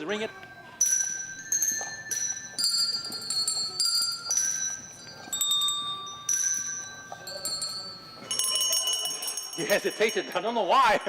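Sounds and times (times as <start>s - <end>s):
hand bells ringing a slow tune: 0.0s - 10.8s.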